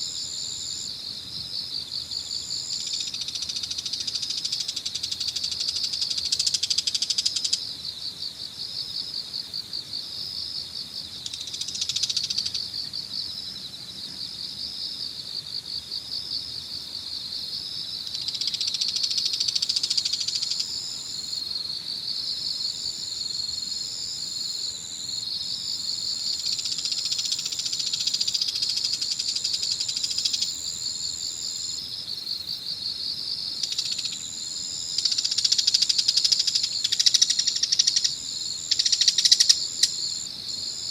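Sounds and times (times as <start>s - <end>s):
high-pitched insect trill: 0.0s - 40.9s
insects chirping chorus: 0.0s - 40.9s.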